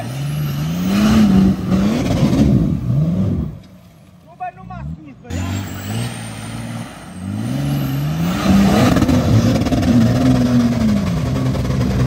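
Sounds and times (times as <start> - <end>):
diesel engine revving hard: 0.0 - 3.6, 4.8 - 12.0.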